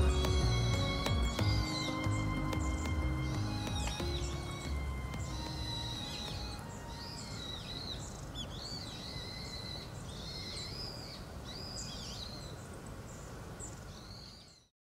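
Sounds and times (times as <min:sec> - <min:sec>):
birds chirping and whistling: 0:00.0 - 0:12.3.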